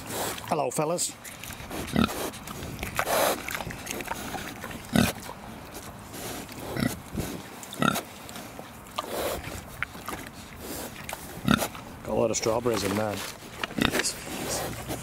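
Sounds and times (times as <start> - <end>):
pigs chomping: 0.0 - 15.0
pigs grunting: 0.0 - 15.0.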